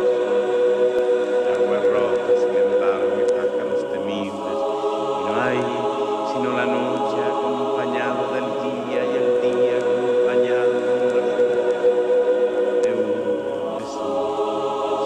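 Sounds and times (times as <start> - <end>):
choir-like voices sliding: 0.0 - 15.0
held drone: 0.0 - 15.0.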